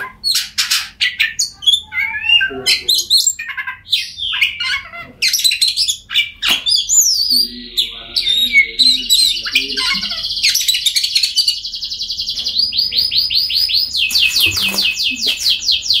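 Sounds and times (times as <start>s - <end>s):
bird singing whistles and trills: 1.0s - 16.0s.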